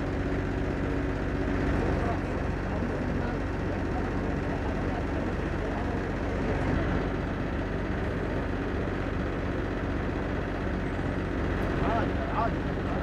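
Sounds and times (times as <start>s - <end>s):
ship engines droning: 0.0s - 13.0s.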